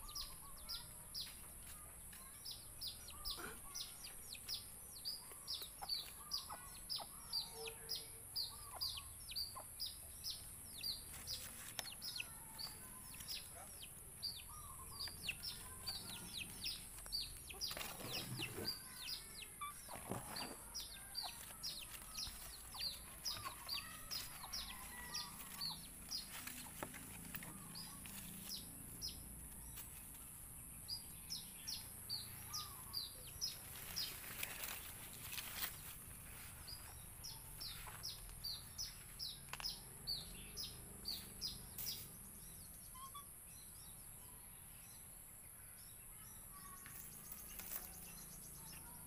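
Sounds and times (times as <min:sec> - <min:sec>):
bird chirping: 0:00.0 - 0:49.0.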